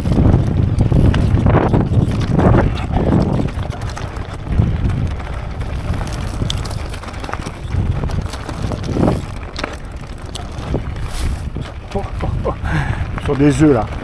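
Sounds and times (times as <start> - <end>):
bike clattering over rocks: 0.0 - 14.0
wind buffeting microphone: 0.0 - 14.0.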